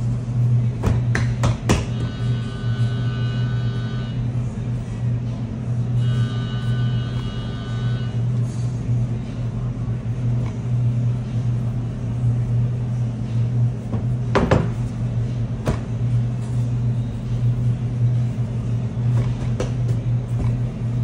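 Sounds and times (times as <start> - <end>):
low hum of kitchen machinery: 0.0 - 21.0.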